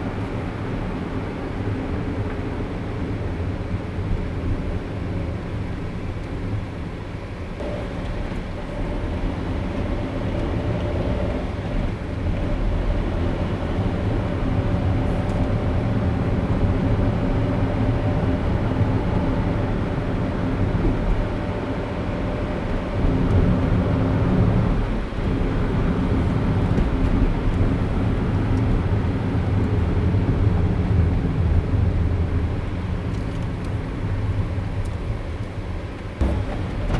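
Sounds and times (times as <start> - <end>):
car driving road noise: 0.0 - 36.9.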